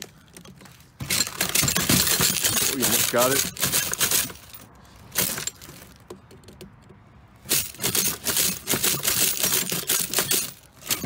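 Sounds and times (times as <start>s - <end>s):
metal clicking and rattling: 0.0s - 11.0s.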